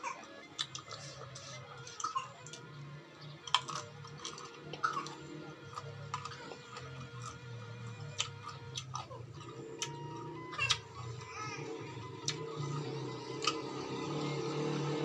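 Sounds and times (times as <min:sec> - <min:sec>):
person chewing crisp fruit: 0:00.5 - 0:02.7, 0:03.4 - 0:14.9.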